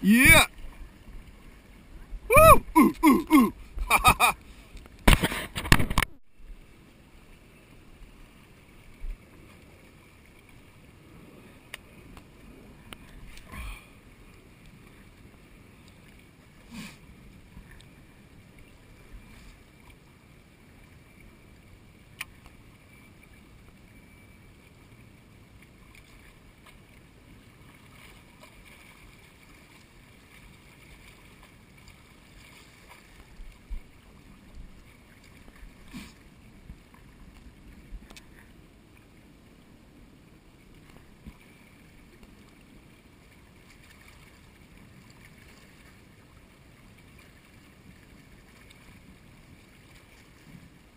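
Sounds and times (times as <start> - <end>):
faint low shoreline rumble: 0.0 - 50.9.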